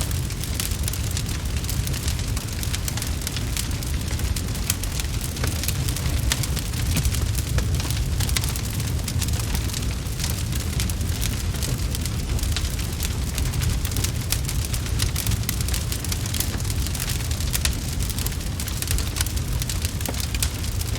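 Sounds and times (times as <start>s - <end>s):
low rumble: 0.0s - 20.9s
wood fire crackling: 0.0s - 20.9s.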